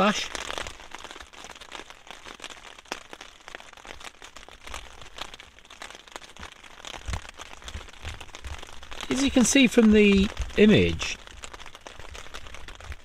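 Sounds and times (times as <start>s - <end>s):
heavy rain on a tent: 0.0s - 13.0s.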